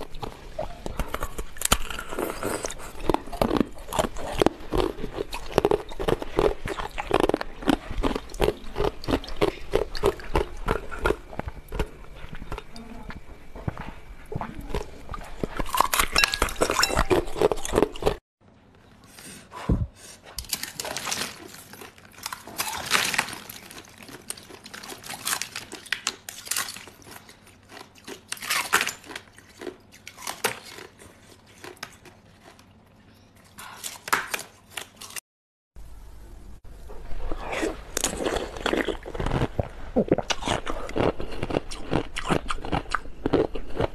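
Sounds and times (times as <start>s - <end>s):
chewing ice crunches: 0.0s - 13.2s, 14.6s - 18.2s, 20.4s - 32.8s, 38.0s - 43.9s.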